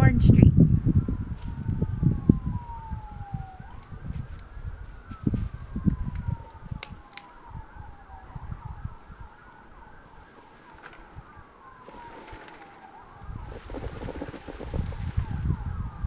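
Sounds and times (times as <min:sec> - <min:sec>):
wind buffeting microphone: 0:00.0 - 0:16.0
siren wailing: 0:00.6 - 0:16.0.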